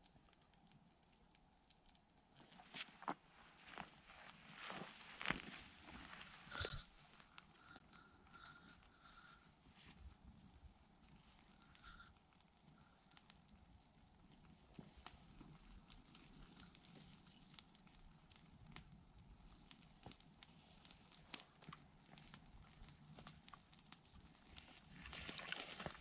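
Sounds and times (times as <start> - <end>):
faint crackles and clicks: 0.0 - 26.0
low outdoor rumble: 0.0 - 26.0.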